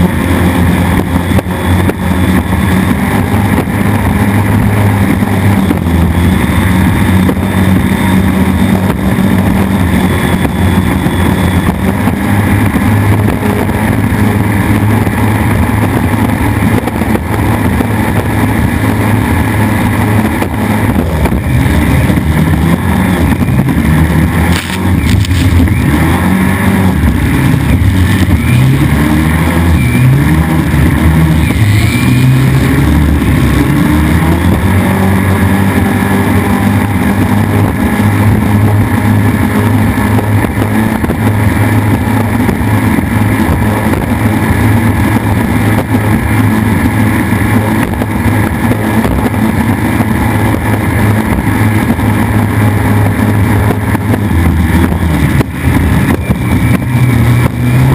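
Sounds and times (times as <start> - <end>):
race boat engine running hard: 0.0 - 57.9.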